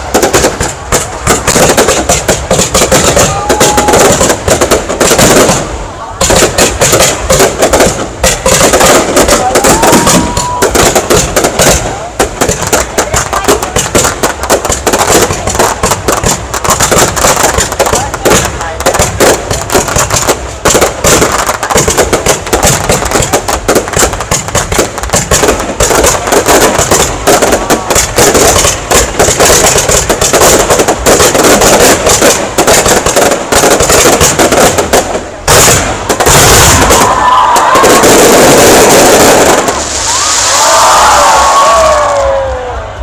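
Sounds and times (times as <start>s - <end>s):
crowd voices: 0.0s - 43.0s
fireworks bangs and crackles: 0.0s - 43.0s.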